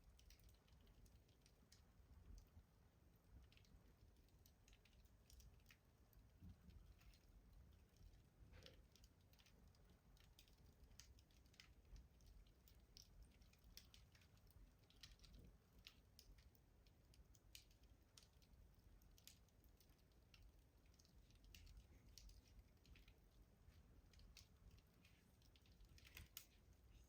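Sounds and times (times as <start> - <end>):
faint wood fire crackling: 0.0 - 27.0
low steady hum: 0.0 - 27.0.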